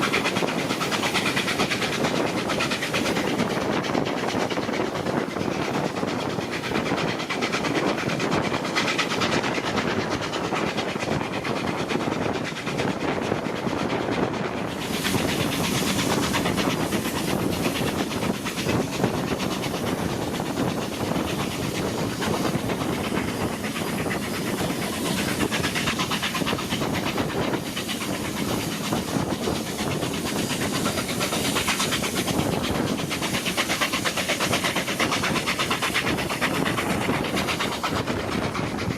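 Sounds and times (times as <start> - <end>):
steam hiss: 0.0 - 38.9
train wheel and rail noise: 0.0 - 38.9.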